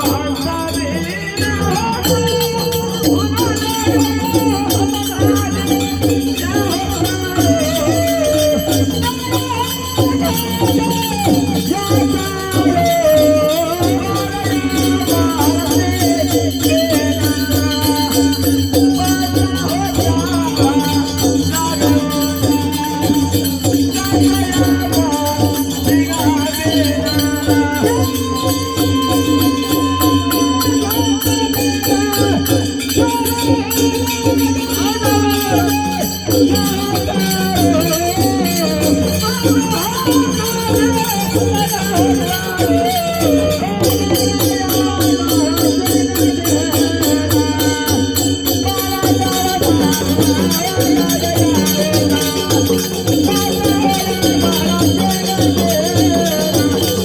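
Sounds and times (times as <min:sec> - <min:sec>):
fast rattling shaker beat: 0:00.0 - 0:57.0
wavering melody: 0:00.0 - 0:57.0.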